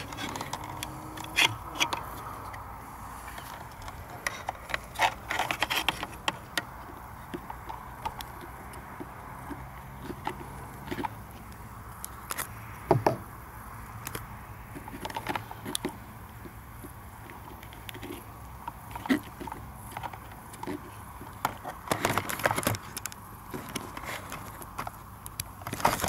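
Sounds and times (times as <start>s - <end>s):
plastic clicks and rattles: 0.0s - 2.7s, 3.3s - 13.2s, 14.0s - 26.0s.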